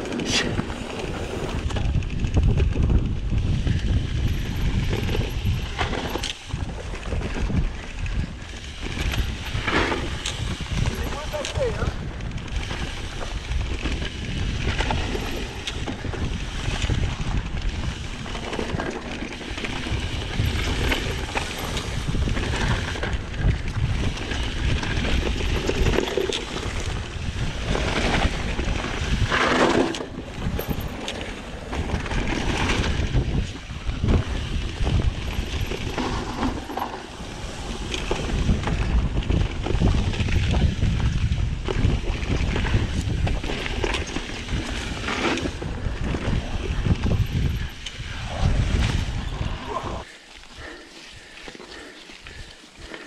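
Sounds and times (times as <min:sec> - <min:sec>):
continuous low rumble: 0:00.0 - 0:53.0
wind buffeting microphone: 0:00.0 - 0:53.0.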